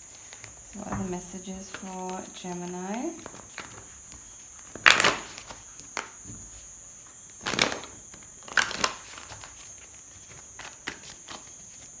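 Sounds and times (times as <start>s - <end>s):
cards shuffling: 0.1s - 6.6s, 7.3s - 12.0s.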